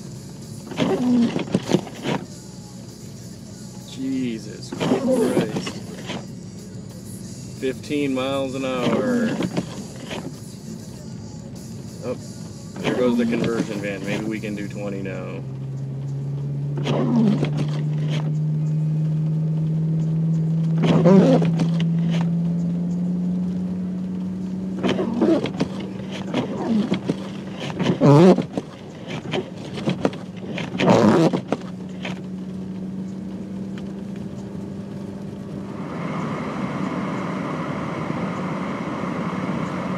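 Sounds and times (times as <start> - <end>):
car engine hum from inside: 0.0 - 39.9.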